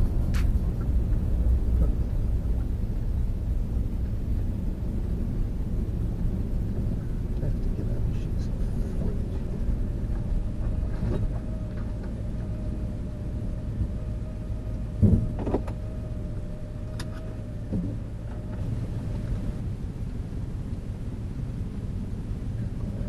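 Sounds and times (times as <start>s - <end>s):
faint steady hum: 0.0s - 23.0s
van engine and road rumble: 0.0s - 23.0s.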